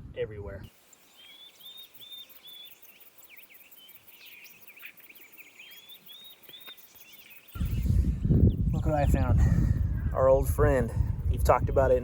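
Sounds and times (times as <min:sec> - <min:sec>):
songbirds singing and chirping: 0:00.1 - 0:12.0.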